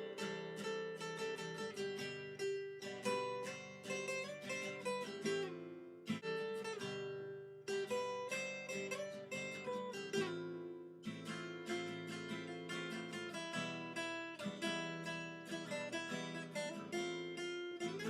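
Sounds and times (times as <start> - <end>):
acoustic guitar melody: 0.0 - 18.0.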